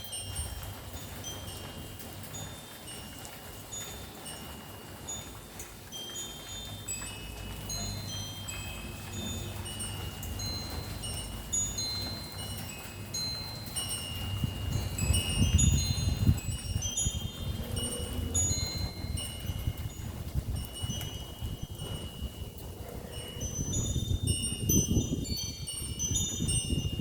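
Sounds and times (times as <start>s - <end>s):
wind chime tinkling: 0.0s - 27.0s.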